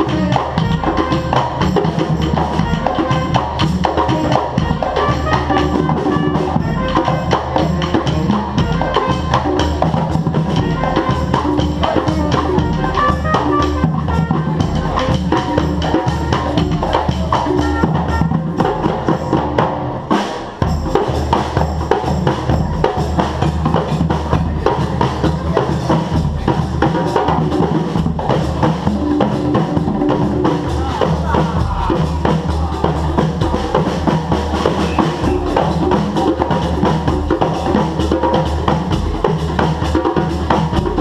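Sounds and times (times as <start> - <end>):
bass line and melody: 0.0 - 41.0
drums and percussion: 0.0 - 41.0.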